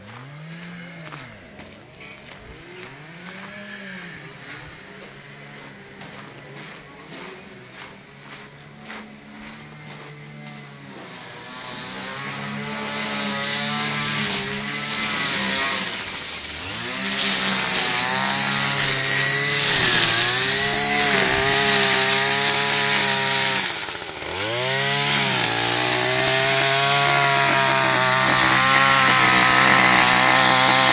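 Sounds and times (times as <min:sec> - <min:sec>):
brush cutter engine running: 0:00.0 - 0:30.9.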